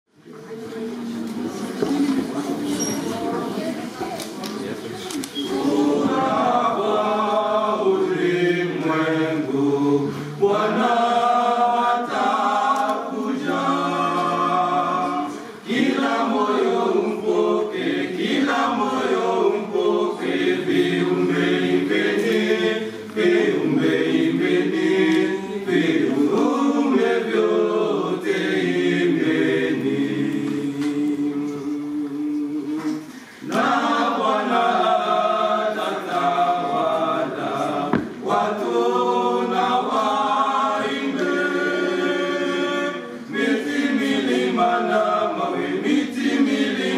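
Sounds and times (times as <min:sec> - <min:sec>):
men singing a cappella carol: 0:05.6 - 0:46.9.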